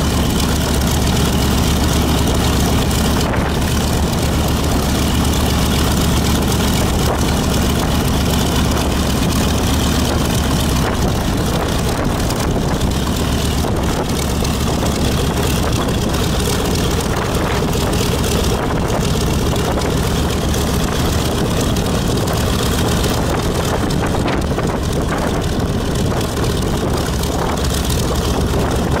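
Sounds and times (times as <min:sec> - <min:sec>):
aircraft radial engine droning: 0:00.0 - 0:29.0.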